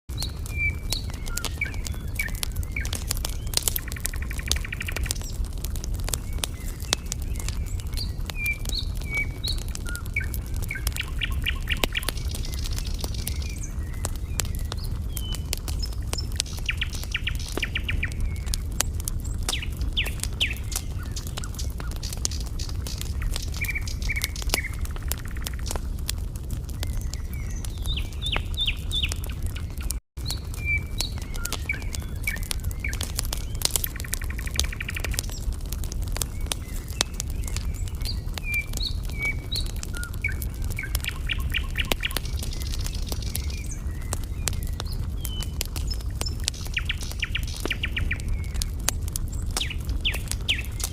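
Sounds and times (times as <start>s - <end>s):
small birds chirping: 0.1s - 50.9s
wood fire crackling and popping: 0.1s - 50.9s.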